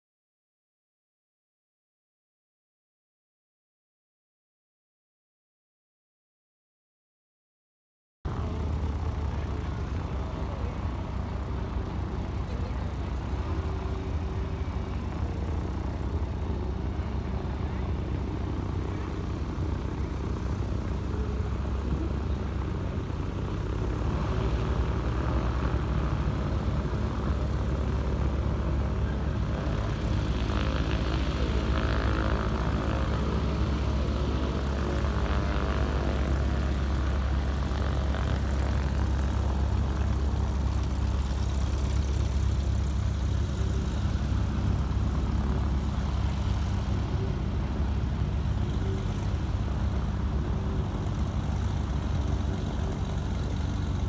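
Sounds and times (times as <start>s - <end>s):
light plane engine and propeller: 8.3s - 54.0s.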